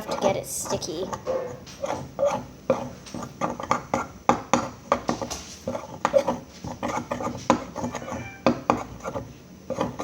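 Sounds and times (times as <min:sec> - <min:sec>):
utensil stirring batter in bowl: 0:00.0 - 0:10.0.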